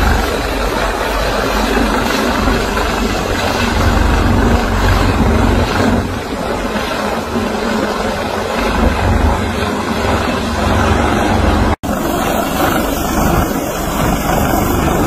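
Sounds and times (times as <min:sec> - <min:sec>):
helicopter rotor thudding: 0:00.0 - 0:15.0
steady rushing noise: 0:00.0 - 0:15.0.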